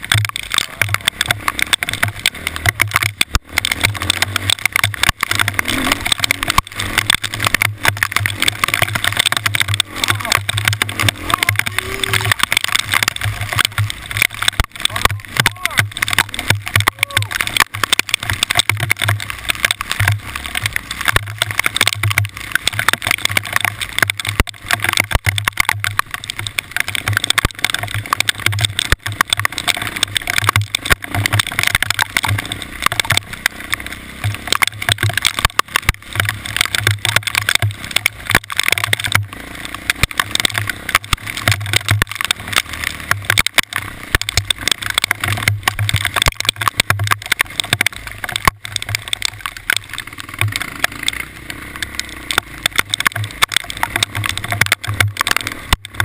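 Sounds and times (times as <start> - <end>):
dense continuous crackle: 0.0 - 56.0.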